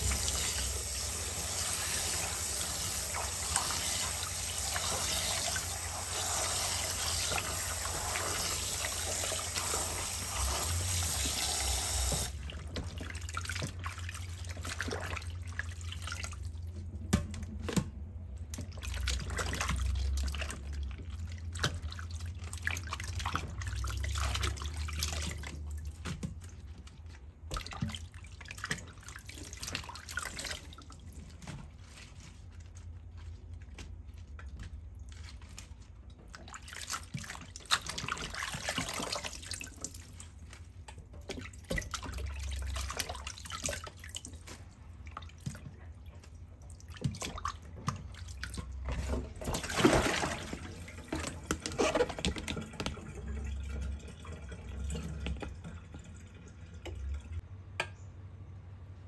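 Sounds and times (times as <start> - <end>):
water splashing in basin: 0.0 - 57.5.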